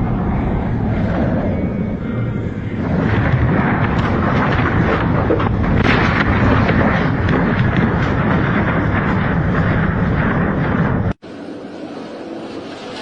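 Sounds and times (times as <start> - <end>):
heavy wind on microphone: 0.0 - 13.0.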